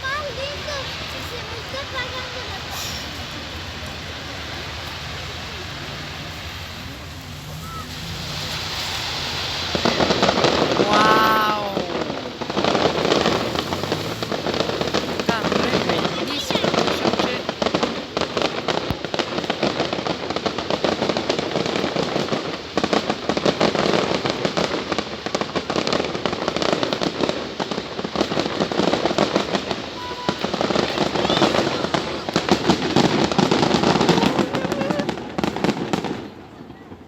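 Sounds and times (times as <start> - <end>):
fireworks popping and banging: 0.0 - 37.0.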